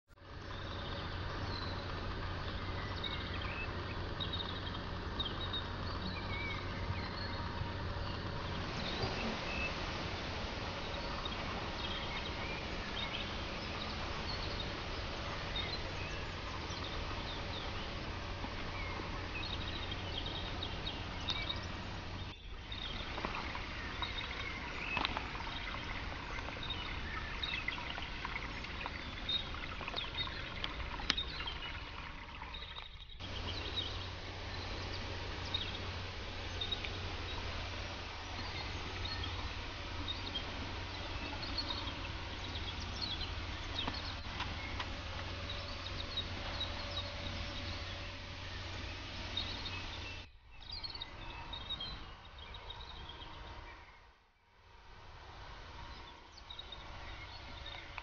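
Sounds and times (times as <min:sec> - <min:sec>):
steady background hiss: 0:00.2 - 0:58.0
bird chirps: 0:00.3 - 0:54.1.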